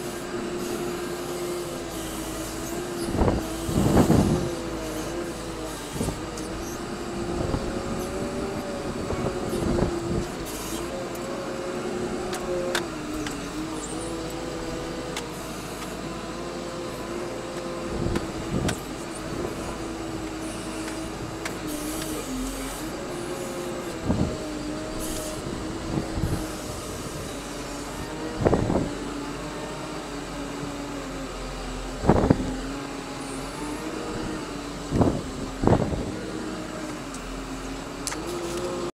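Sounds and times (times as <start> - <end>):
wheel loader engine running: 0.0 - 38.9.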